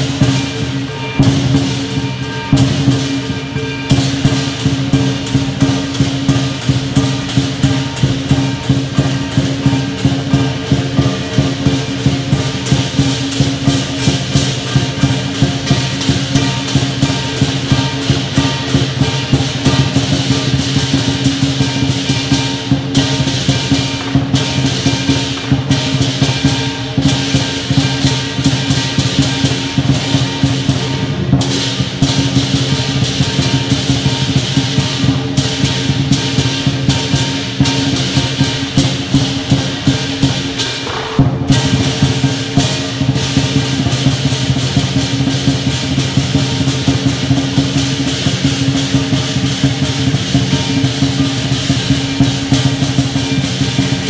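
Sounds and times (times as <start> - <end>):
cymbals clashing: 0.0 - 54.0
drum beating: 0.0 - 54.0
gong: 0.0 - 54.0.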